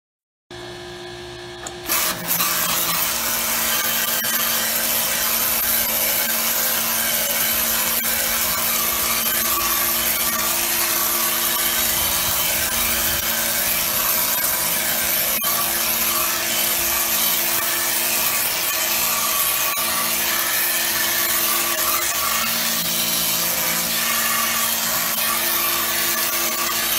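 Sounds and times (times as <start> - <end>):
pressure washer spraying wood: 1.8 - 26.9.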